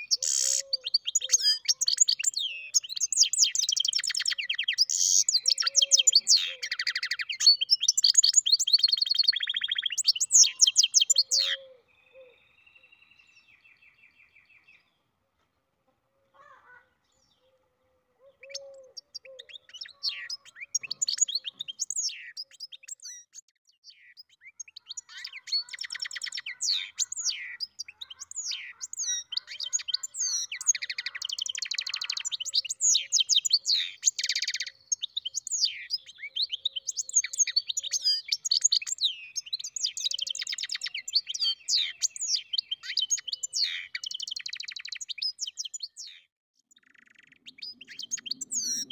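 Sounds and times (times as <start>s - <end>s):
bird singing chirps and trills: 0.0s - 15.1s, 18.2s - 48.9s.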